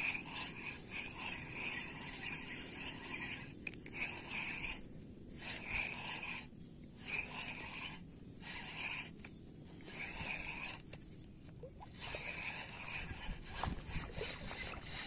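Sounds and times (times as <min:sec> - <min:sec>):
fishing reel scratchy whir: 0:00.0 - 0:15.0.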